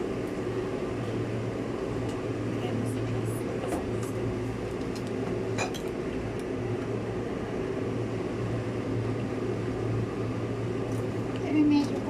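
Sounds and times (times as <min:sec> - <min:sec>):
appliance hum: 0:00.0 - 0:12.0.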